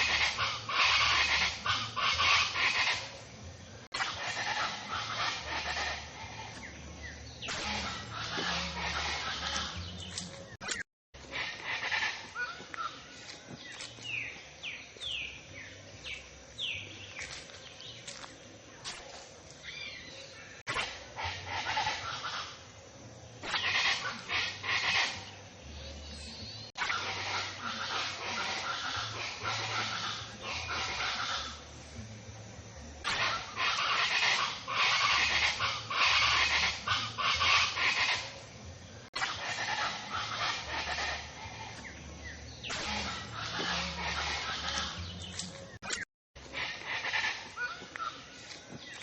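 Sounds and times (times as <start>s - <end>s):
birds chattering: 0.0s - 49.0s
songbird chirping: 0.0s - 49.0s
steady outdoor hiss: 0.0s - 49.0s.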